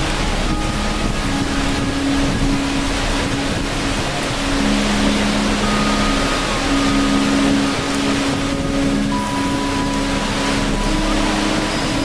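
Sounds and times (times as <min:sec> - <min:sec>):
falling water rushing: 0:00.0 - 0:12.0
low meditation drone: 0:00.0 - 0:12.0.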